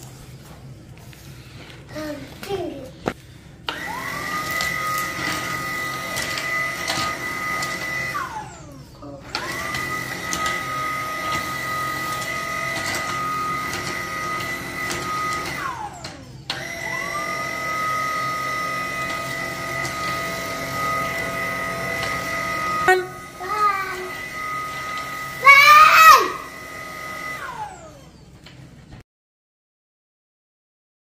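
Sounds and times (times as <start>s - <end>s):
cordless vacuum whine: 3.0s - 29.0s.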